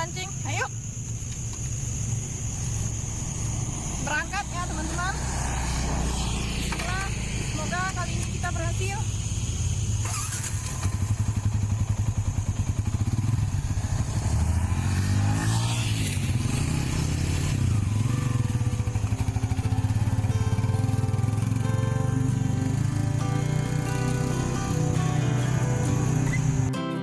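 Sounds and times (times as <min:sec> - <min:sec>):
motorcycle engine running: 0:00.0 - 0:26.8.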